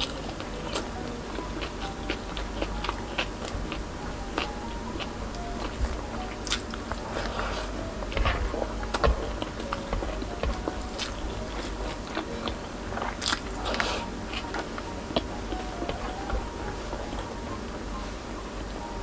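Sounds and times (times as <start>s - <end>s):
wet chewing mouth sounds: 0.0s - 17.3s.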